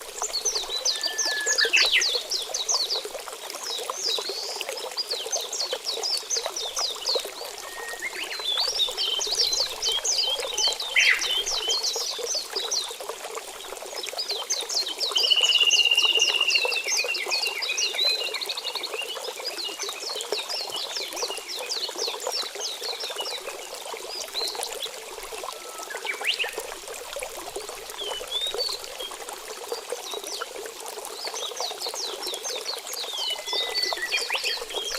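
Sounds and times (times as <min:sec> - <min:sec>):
trickle of running water: 0:00.0 - 0:34.9.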